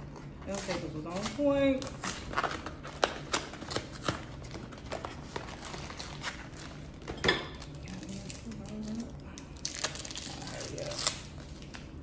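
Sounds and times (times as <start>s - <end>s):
packaging crinkling: 0.0s - 12.0s
packaging crackle: 0.5s - 12.0s.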